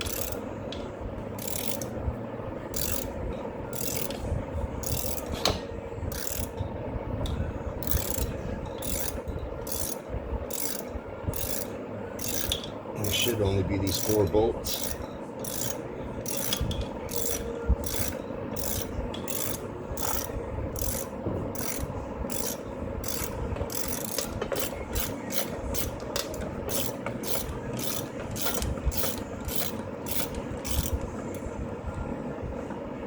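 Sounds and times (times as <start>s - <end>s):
ratchet wrench clicking: 0.0s - 0.8s, 1.4s - 2.0s, 2.7s - 4.2s, 4.8s - 6.6s, 7.8s - 31.4s.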